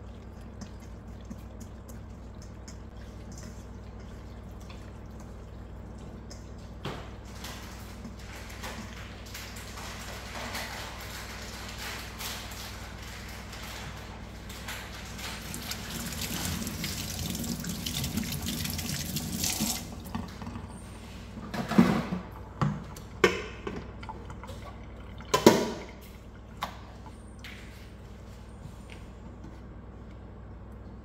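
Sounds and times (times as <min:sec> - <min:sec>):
water sloshing in a bowl: 0:00.0 - 0:28.3.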